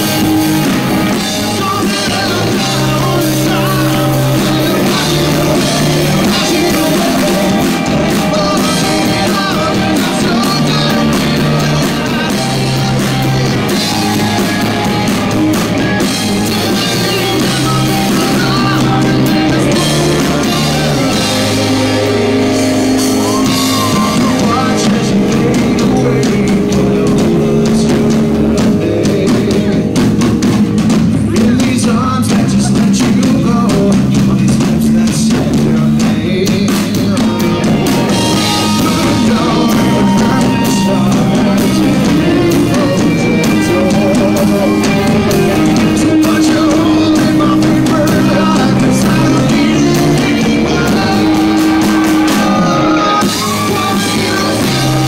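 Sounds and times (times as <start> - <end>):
live rock band playing: 0.0 - 55.0
man singing lead vocal: 0.0 - 55.0.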